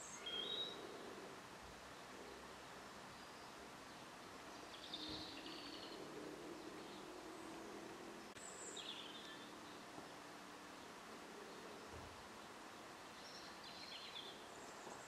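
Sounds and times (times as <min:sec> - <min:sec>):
faint outdoor hiss: 0:00.0 - 0:15.0
small birds chirping: 0:00.0 - 0:15.0.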